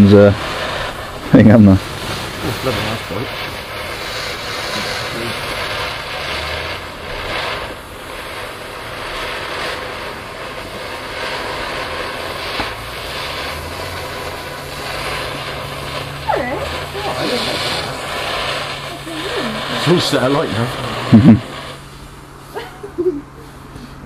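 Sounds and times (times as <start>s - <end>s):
firework fountain hissing: 0.0s - 24.0s.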